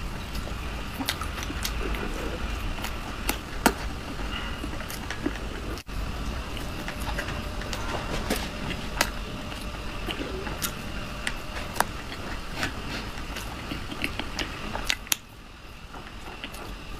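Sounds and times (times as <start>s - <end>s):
close-miked chewing: 0.0s - 16.9s
low hum and hiss: 0.0s - 16.9s.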